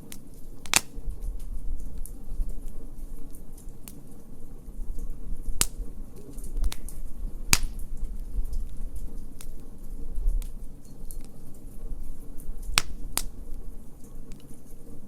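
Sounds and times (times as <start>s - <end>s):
sharp pops of fire: 0.0s - 15.0s
wood fire crackling: 0.0s - 15.0s.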